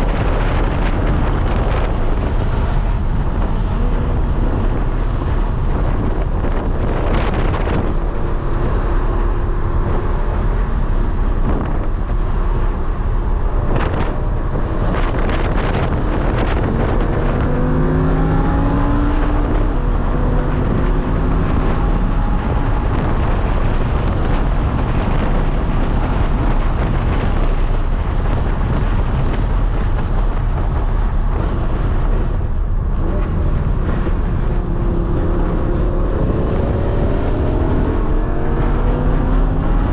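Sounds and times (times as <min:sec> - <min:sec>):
sports car engine revving: 0:00.0 - 0:39.9
wind and road noise: 0:00.0 - 0:39.9.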